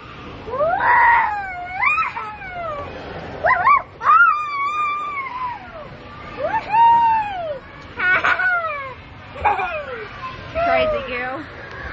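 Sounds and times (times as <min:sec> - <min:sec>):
child squealing and whining: 0:00.5 - 0:11.0.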